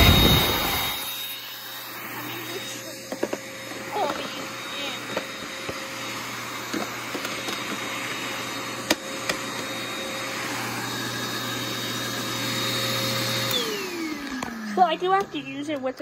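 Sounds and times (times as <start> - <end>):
vacuum motor hissing and whining: 0.0 - 16.0.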